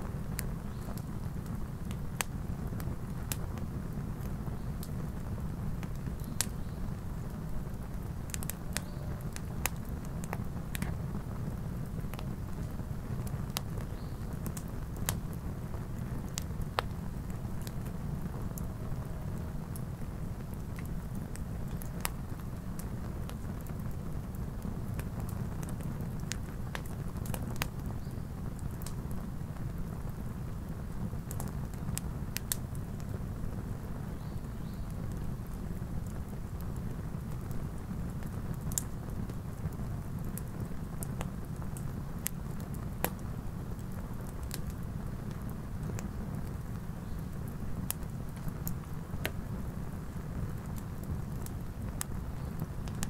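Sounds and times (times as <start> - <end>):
campfire crackling: 0.0 - 53.0.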